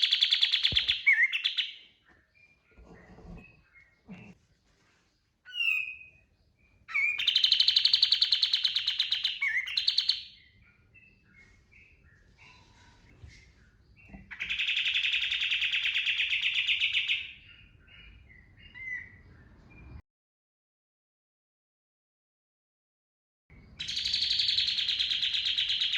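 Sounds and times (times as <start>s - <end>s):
rapid rattling bird song: 0.0s - 12.7s, 13.3s - 19.9s, 23.5s - 25.9s
songbird singing: 0.0s - 20.0s, 23.5s - 25.9s.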